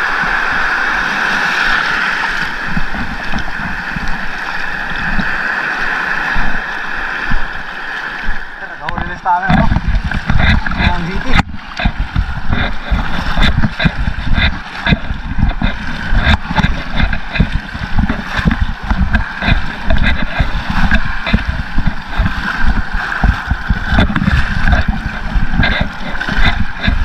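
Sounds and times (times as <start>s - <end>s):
surf water sloshing: 0.0s - 27.0s
wind buffeting microphone: 2.2s - 27.0s.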